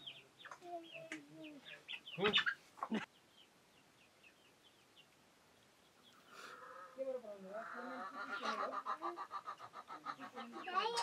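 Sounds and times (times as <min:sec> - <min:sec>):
chickens chirping and clucking: 0:00.0 - 0:11.0.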